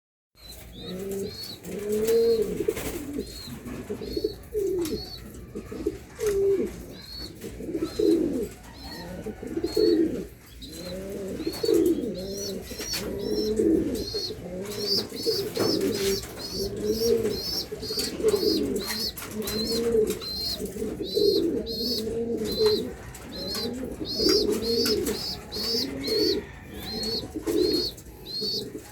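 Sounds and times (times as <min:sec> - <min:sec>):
pigeons cooing: 0:00.4 - 0:28.9.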